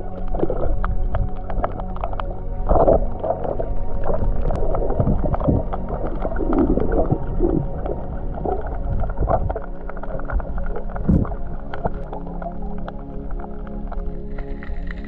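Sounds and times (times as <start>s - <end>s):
underwater water gurgling: 0.0s - 15.0s.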